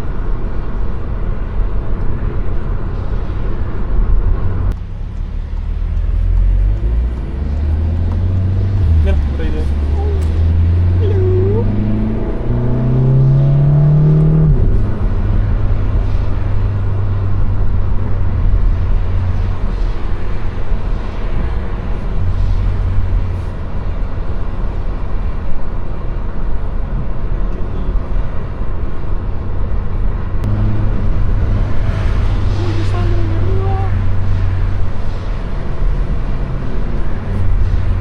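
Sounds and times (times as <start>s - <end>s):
road noise: 0.0s - 38.0s
car engine accelerating: 2.6s - 26.0s, 27.2s - 38.0s.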